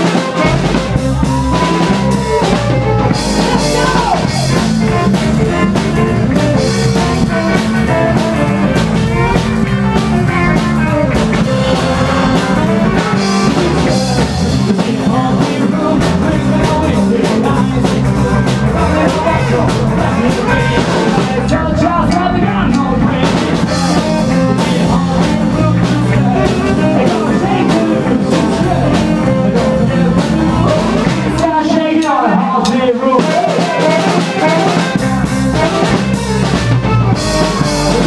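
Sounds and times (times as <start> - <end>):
rockabilly band playing live: 0.0 - 38.0.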